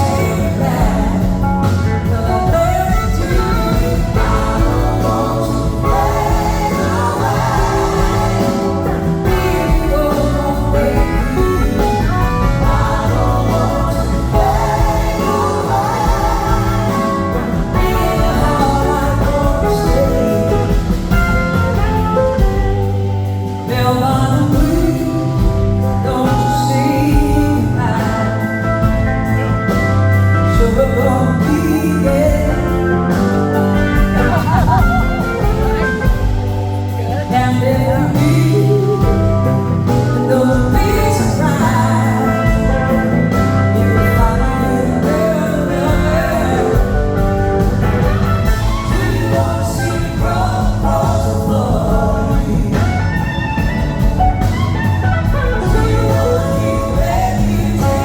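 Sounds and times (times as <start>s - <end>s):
live band playing blues-rock: 0.0s - 58.0s
person singing: 0.0s - 58.0s.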